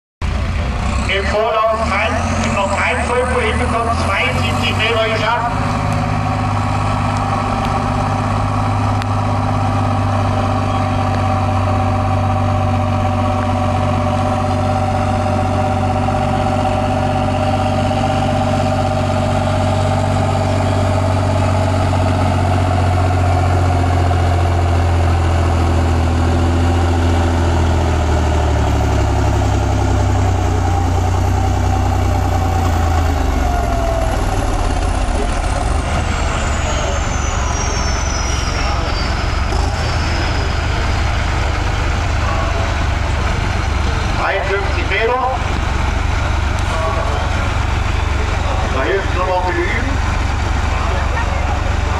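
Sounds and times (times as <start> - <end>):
tractor diesel engine droning: 0.2 - 51.9.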